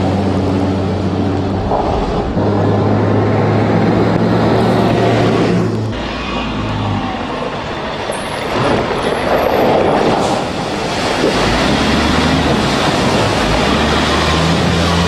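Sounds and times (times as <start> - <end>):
wind noise on microphone: 0.0 - 6.0, 7.5 - 13.9
vehicle engine and tyre noise: 0.0 - 15.0.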